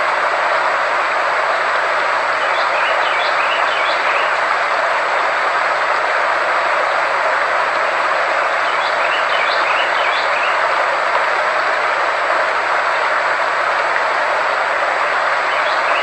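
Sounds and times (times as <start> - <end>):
steady hiss-like noise: 0.0 - 16.0.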